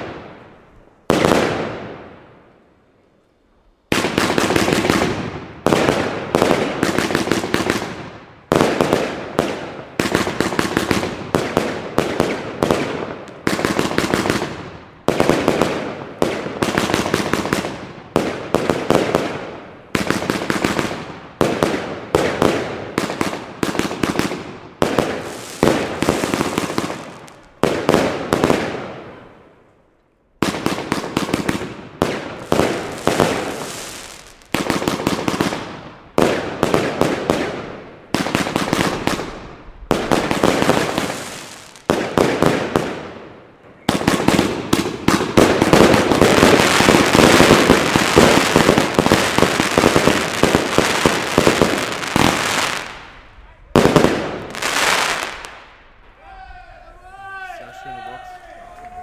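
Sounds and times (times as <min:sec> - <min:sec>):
firework crackling: 0:03.9 - 0:29.5, 0:30.4 - 0:56.2.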